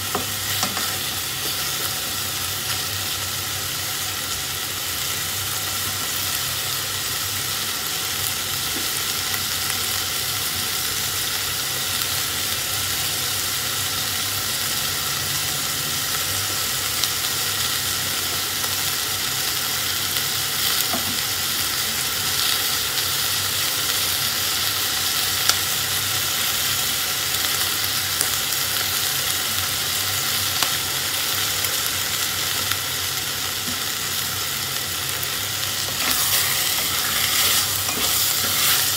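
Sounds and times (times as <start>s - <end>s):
meat and onion sizzling in a pot: 0.0s - 38.9s.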